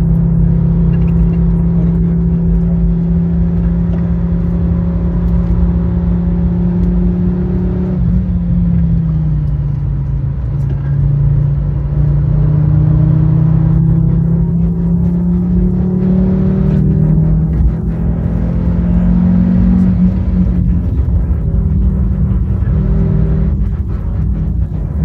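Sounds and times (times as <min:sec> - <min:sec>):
car engine running under load: 0:00.0 - 0:25.0.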